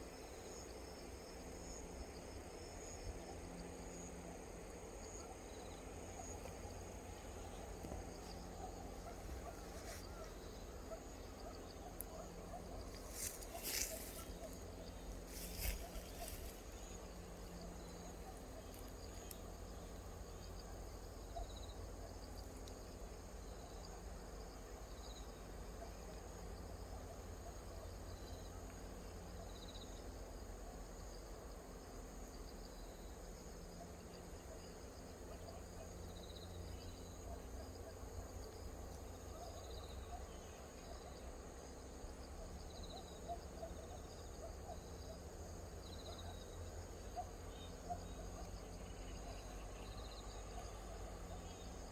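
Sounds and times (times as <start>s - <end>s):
insect chirping: 0.0s - 51.9s.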